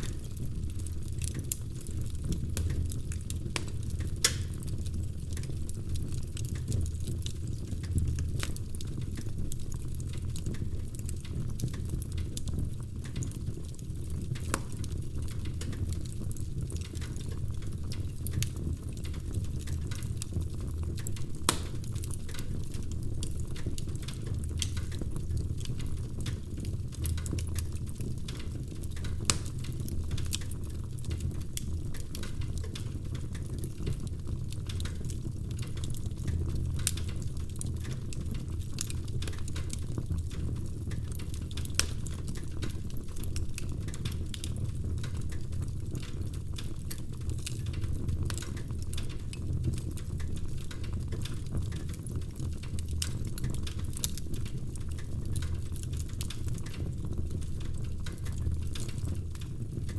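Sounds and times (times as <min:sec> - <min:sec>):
fire pops: 0:00.0 - 0:59.9
low fire roar: 0:00.0 - 0:59.9
wood fire crackling: 0:00.0 - 0:59.9.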